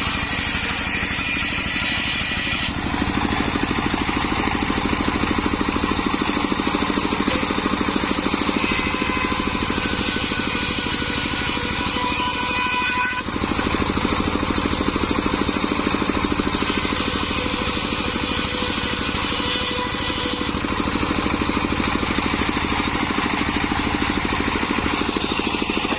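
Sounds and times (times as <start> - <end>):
sawmill engine running: 0.0 - 25.9.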